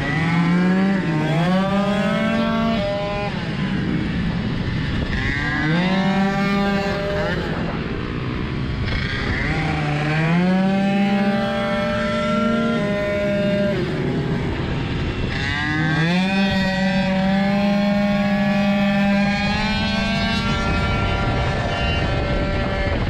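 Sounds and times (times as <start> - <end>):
scooter engine revving: 0.0 - 23.0
wind noise: 0.0 - 23.0.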